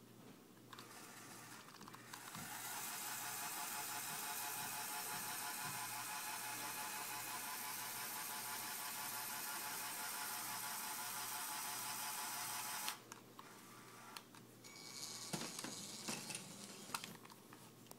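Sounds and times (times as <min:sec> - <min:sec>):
toy electric motor and gears whirring: 0:00.7 - 0:17.3.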